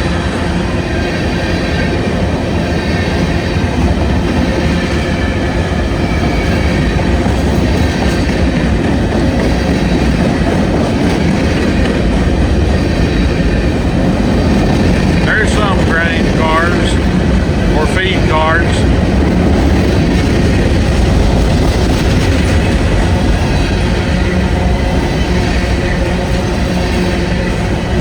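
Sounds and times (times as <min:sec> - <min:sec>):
train wheels rumbling on rail: 0:00.0 - 0:28.0
wheels clickety-clack: 0:01.3 - 0:28.0.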